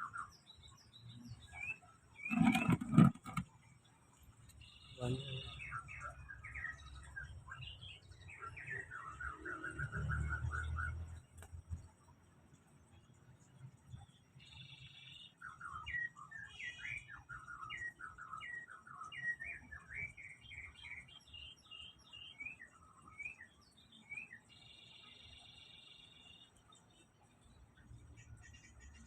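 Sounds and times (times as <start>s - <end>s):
bird chirps: 0.0s - 12.0s, 12.9s - 29.0s.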